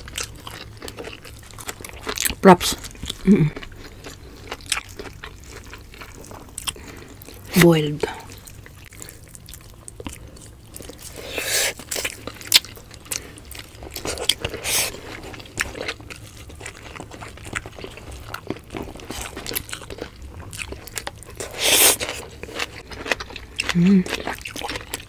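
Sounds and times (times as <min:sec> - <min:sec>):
people chewing food: 0:00.0 - 0:25.0.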